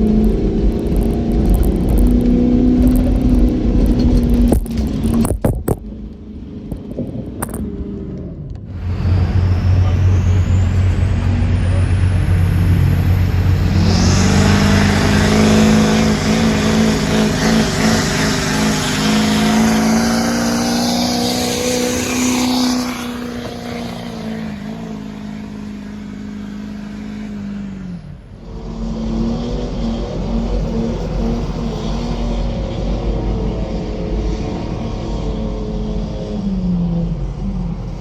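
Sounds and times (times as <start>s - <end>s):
diesel truck engine revving: 0.0s - 38.0s
engine running steadily: 0.0s - 38.0s.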